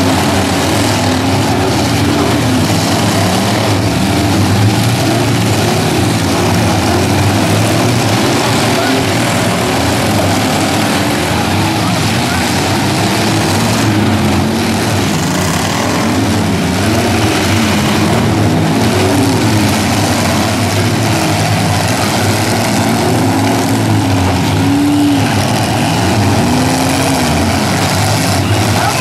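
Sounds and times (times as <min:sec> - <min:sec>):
truck engines revving: 0:00.0 - 0:29.0.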